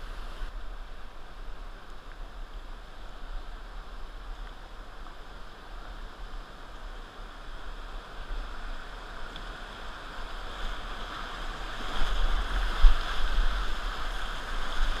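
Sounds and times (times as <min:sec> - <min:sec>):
rushing whitewater: 0:00.0 - 0:15.0.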